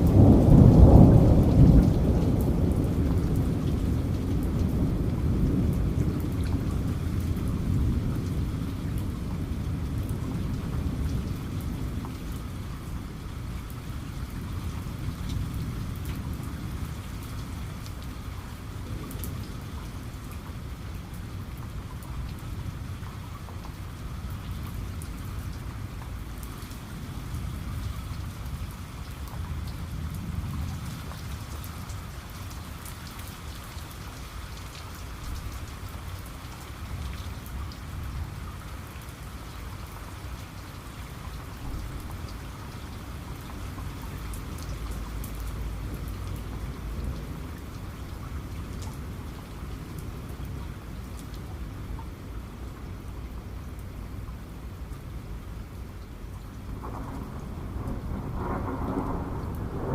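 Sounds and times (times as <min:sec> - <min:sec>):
low rumble of thunder: 0:00.0 - 0:59.9
steady rain pattering: 0:00.0 - 0:59.9.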